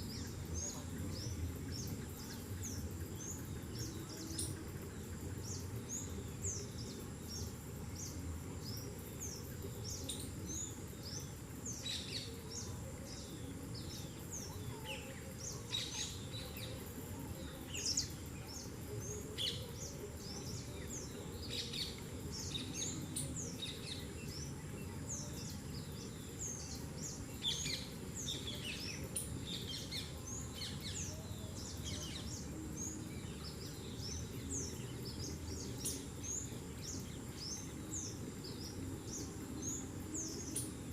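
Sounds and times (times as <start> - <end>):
low background noise: 0.0 - 40.9.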